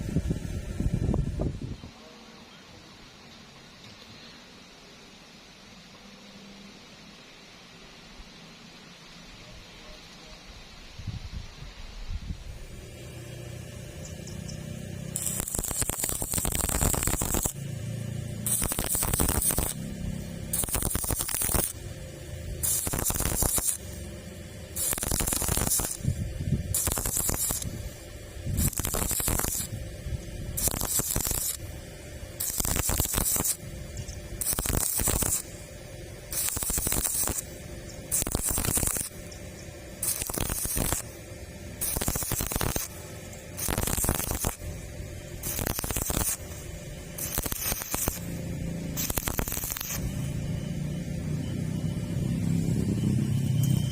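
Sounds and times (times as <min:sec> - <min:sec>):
welding arc crackling and hissing: 0:00.0 - 0:01.8, 0:12.4 - 0:53.9.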